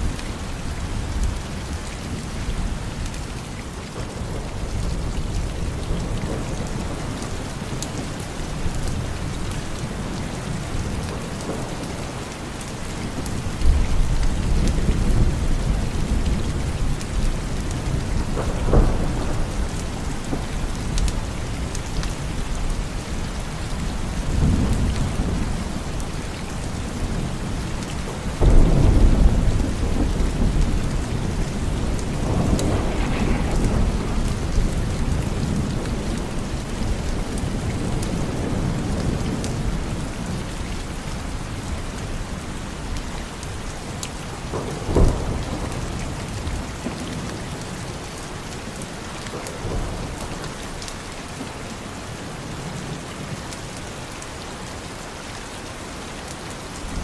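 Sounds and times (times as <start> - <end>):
heavy rain: 0.0 - 57.0
thunder rumbling: 3.9 - 53.0.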